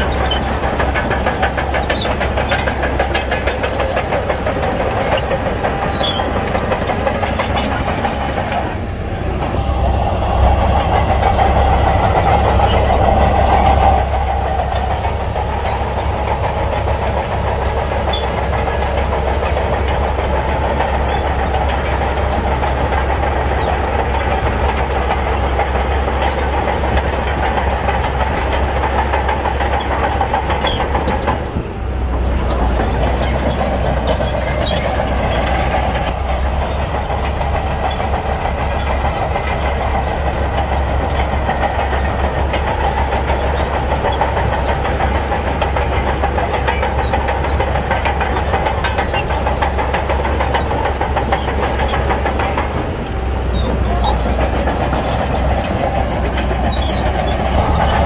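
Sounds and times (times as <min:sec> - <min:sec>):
bulldozer diesel engine under load: 0:00.0 - 0:58.0
steel tracks clanking: 0:00.0 - 0:58.0.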